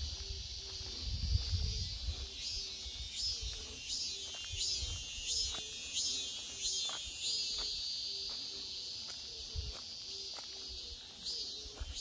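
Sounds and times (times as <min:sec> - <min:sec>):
cicada singing: 0:00.0 - 0:12.0
footsteps on gravel: 0:00.0 - 0:12.0.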